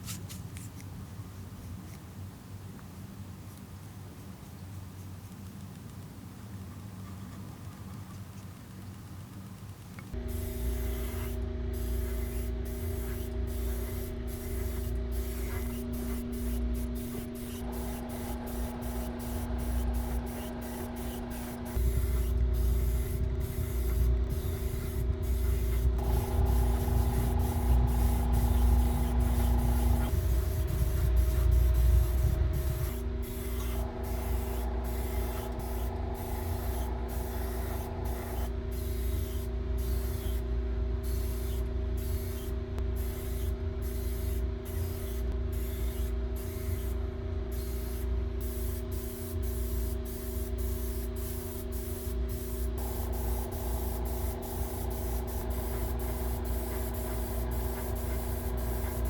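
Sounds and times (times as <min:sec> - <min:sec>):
compressor rumbling: 0:09.3 - 0:59.0
airbrush hissing: 0:10.2 - 0:40.4, 0:41.0 - 0:59.0.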